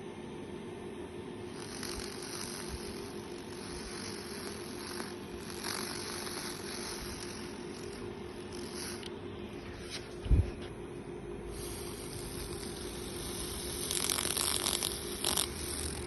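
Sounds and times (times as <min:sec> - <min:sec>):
low hum: 0:00.0 - 0:16.0
laser cleaning machine buzzing hiss: 0:01.3 - 0:10.2, 0:11.3 - 0:16.0.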